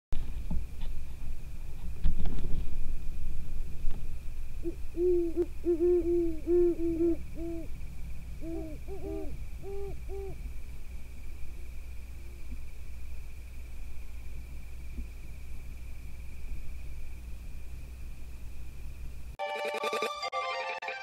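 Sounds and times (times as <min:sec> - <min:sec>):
low hum: 0:00.2 - 0:19.4
faint high whine: 0:00.2 - 0:20.1.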